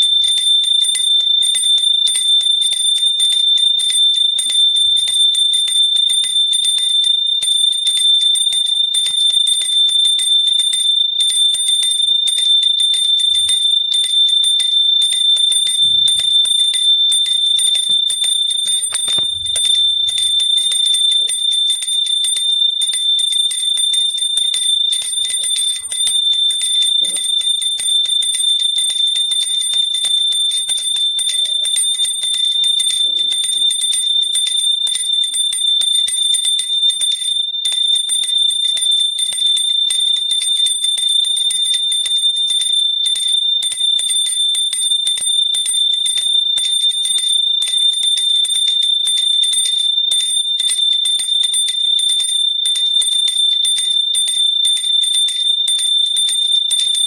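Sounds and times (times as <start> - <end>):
metal hand bell ringing rapidly: 0.0 - 57.0.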